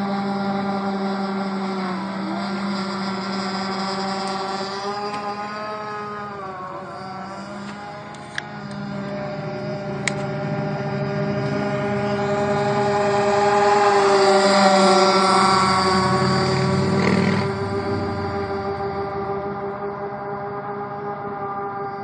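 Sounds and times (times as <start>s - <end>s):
model boat motor whining: 0.0s - 22.0s.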